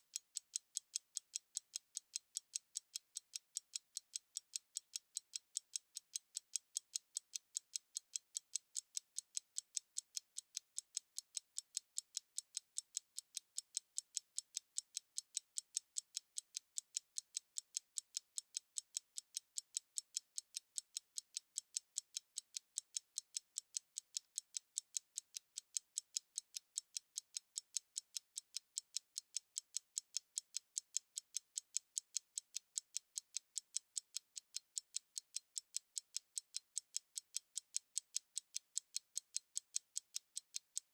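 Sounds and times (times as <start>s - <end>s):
stopwatch ticking: 0.0s - 40.9s.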